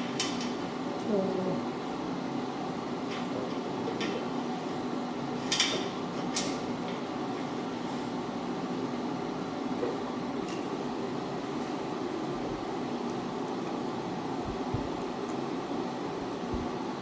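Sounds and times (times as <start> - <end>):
fan-like hum: 0.0 - 17.0.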